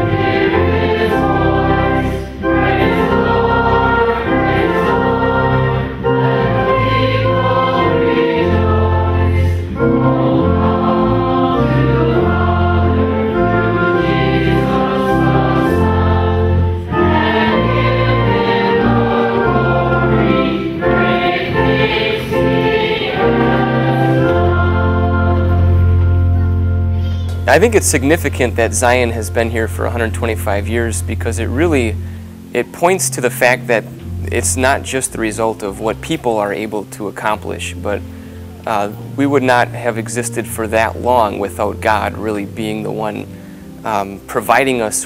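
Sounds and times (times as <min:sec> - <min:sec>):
choir singing sustained chords: 0:00.0 - 0:45.0.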